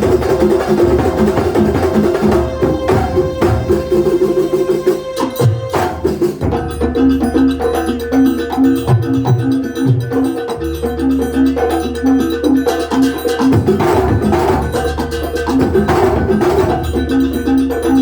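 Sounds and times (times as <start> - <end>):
drum strokes: 0.0 - 18.0
fast repeating pitched notes: 0.0 - 18.0.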